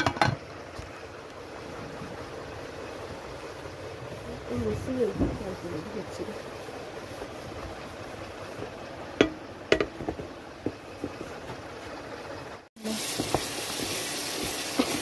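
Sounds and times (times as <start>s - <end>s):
curry sizzling and bubbling: 0.0s - 15.0s.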